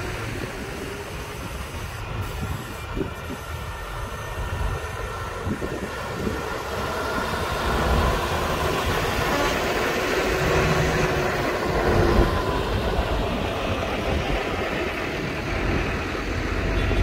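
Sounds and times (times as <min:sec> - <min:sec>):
tractors driving past: 0:00.0 - 0:17.0.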